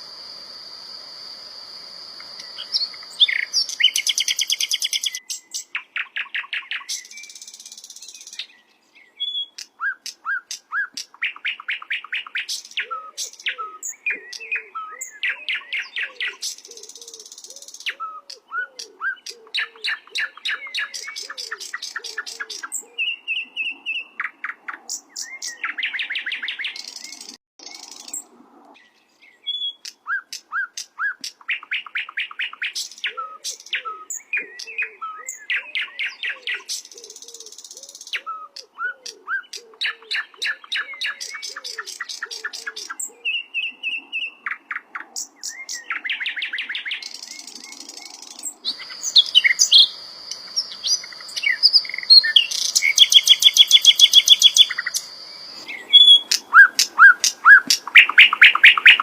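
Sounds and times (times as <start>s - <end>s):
songbird singing trills and whistles: 2.2s - 28.2s, 28.8s - 59.0s.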